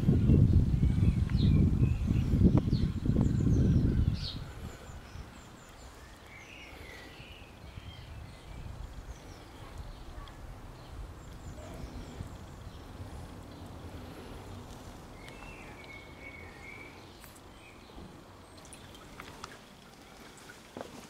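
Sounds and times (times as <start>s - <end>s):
songbird chirps: 0.1s - 21.0s.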